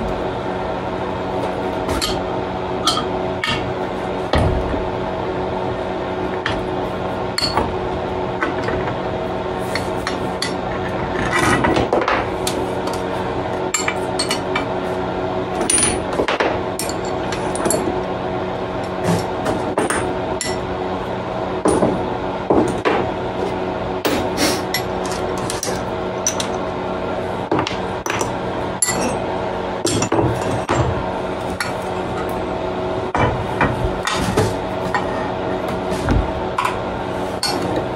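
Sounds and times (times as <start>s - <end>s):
machine hum: 0.0s - 37.9s.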